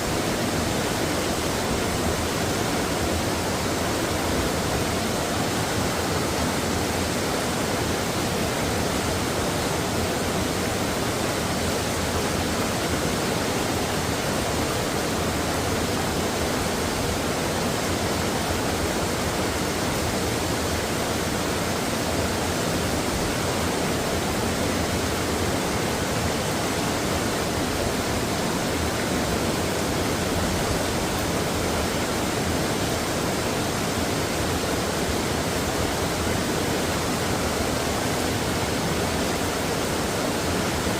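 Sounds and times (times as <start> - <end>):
stream water flowing over rocks: 0.0 - 40.9.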